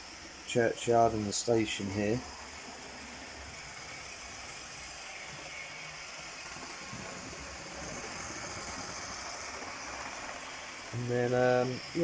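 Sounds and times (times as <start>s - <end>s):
model train running on rails: 0.0s - 12.0s.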